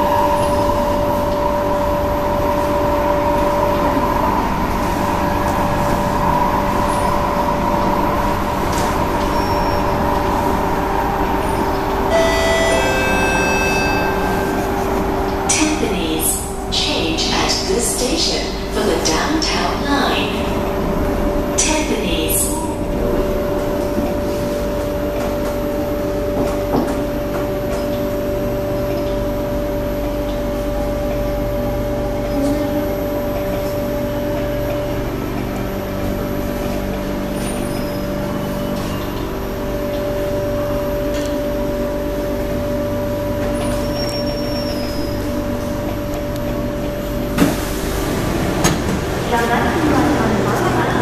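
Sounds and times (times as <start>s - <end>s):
electric train hum tones: 0.0s - 51.0s
train interior rumble: 0.0s - 51.0s.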